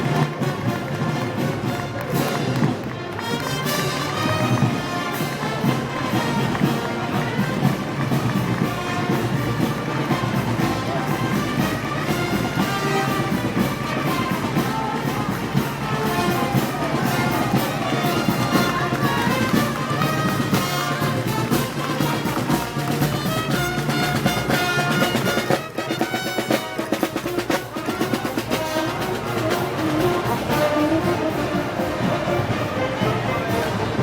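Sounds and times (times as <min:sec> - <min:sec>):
brass band playing: 0:00.0 - 0:34.0
percussion beat: 0:00.0 - 0:34.0.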